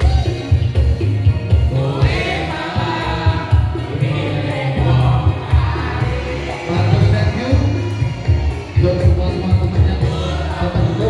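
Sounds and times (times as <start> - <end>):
backing track with pulsing bass: 0.0 - 11.0
people singing into microphone: 0.0 - 11.0.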